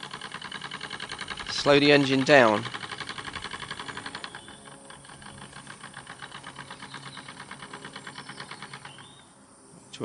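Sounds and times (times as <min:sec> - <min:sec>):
steam engine exhaust puffs: 0:00.0 - 0:09.7.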